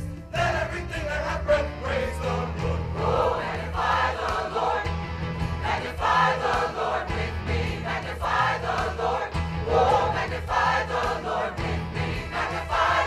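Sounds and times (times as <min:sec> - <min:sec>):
gospel choir singing: 0:00.2 - 0:13.0.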